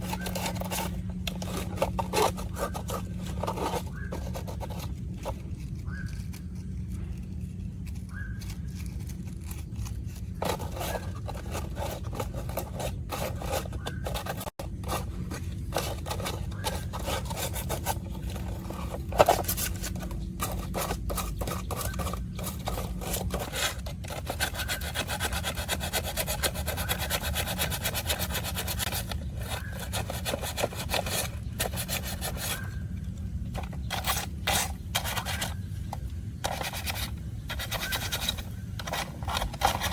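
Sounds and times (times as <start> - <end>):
hand rubbing and scraping a surface: 0.0 - 39.9.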